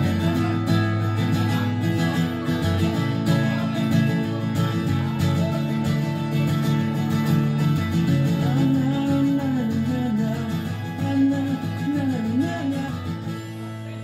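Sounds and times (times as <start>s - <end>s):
acoustic guitar strumming: 0.0s - 14.0s
wordless singing: 0.0s - 14.0s.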